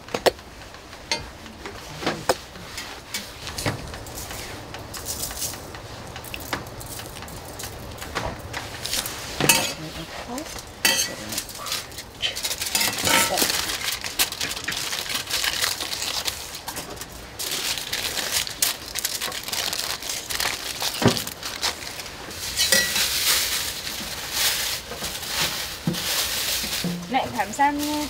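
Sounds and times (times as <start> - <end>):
aluminium foil crinkling: 0.2 - 28.0.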